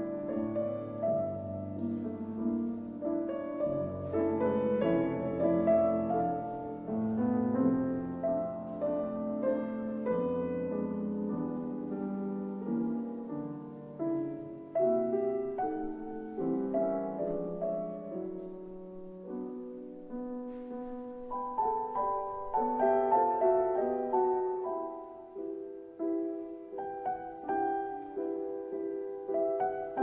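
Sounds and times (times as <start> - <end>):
solo piano melody: 0.0 - 30.0.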